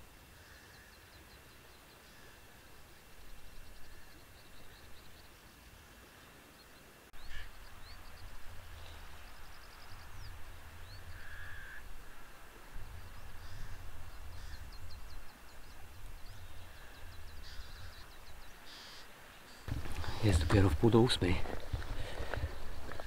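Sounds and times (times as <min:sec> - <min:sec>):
birds twittering: 0:00.0 - 0:23.0.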